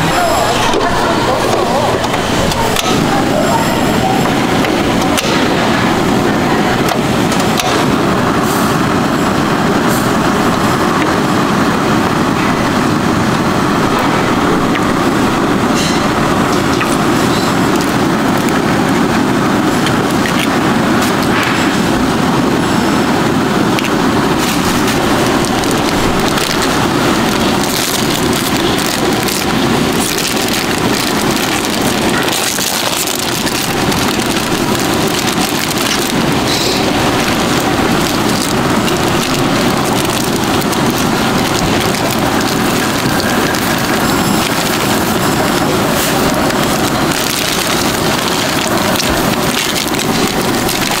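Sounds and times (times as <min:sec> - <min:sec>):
gas burners hissing: 0:00.0 - 0:51.0
pot of water heating: 0:03.9 - 0:51.0.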